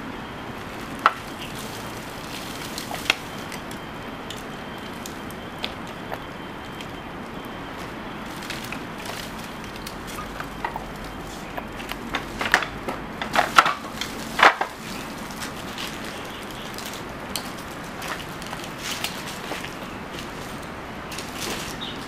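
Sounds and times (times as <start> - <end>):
wood cracking and snapping: 0.7 - 22.0.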